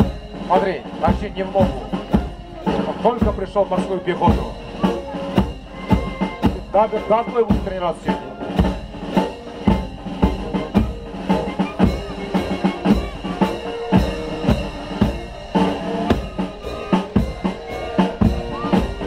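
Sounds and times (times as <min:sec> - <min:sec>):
bass drum and snare beat: 0:00.0 - 0:19.0
military march music: 0:00.0 - 0:19.0.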